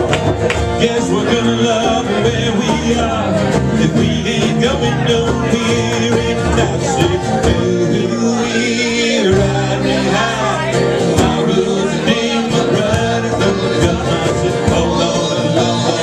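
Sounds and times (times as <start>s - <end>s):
acoustic guitars: 0.0s - 16.0s
person singing: 0.0s - 16.0s.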